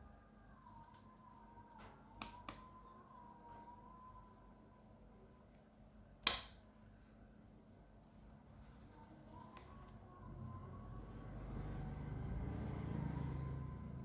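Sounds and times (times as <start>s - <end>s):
faint wavering background tone: 0.0s - 14.0s.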